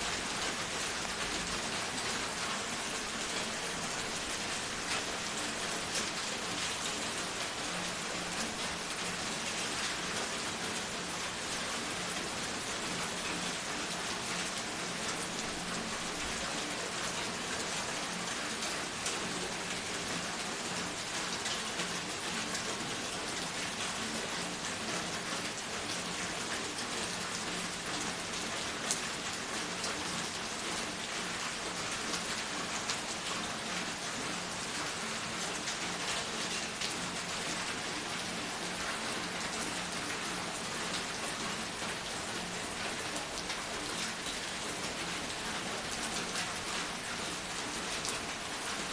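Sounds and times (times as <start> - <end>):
steady rain: 0.0 - 48.9
raindrops pattering on hard surface: 0.1 - 48.9.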